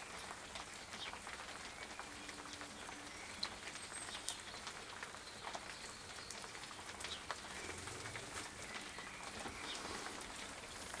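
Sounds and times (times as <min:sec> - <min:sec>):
light rain on pond: 0:00.0 - 0:11.0.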